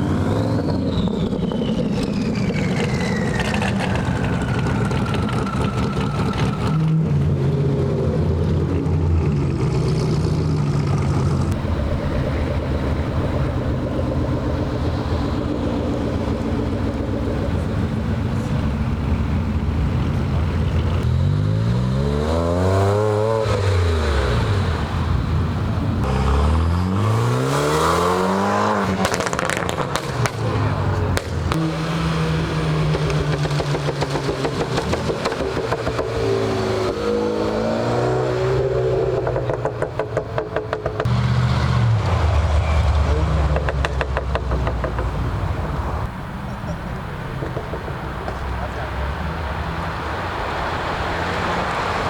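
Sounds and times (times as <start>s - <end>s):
car engine revving: 0.0s - 52.0s
car engines idling: 0.0s - 52.0s.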